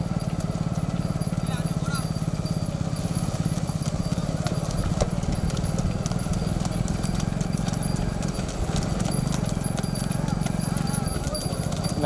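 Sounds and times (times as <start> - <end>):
hooves clopping on dirt: 0.0 - 12.0
motorcycle engines puttering: 0.0 - 12.0.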